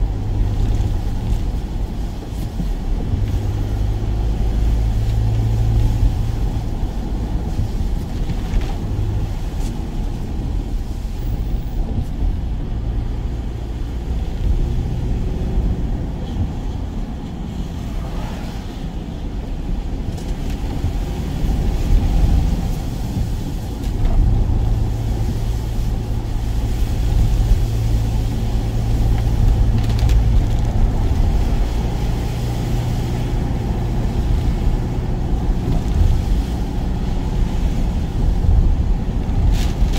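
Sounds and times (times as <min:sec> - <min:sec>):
road noise: 0:00.0 - 0:39.9
van engine droning: 0:00.0 - 0:39.9.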